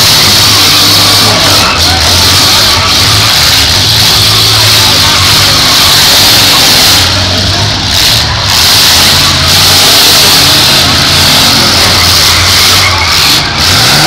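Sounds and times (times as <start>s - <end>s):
car engines revving loudly: 0.0s - 14.0s.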